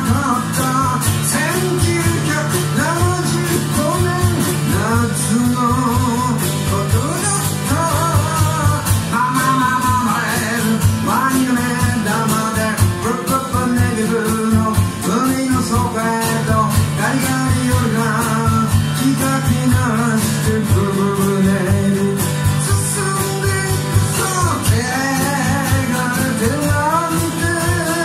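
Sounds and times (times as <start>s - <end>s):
drums and percussion: 0.0s - 28.0s
man singing into a microphone: 0.0s - 28.0s
strummed acoustic guitar: 0.0s - 28.0s.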